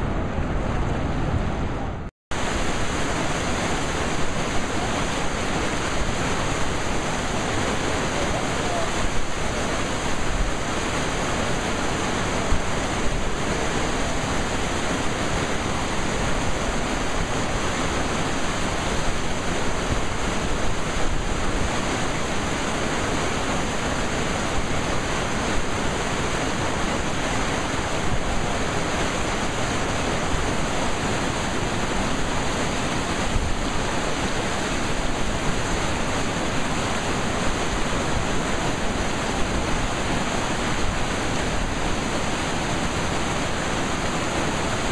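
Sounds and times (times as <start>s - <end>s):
river rapids rushing over rocks: 2.4s - 44.9s.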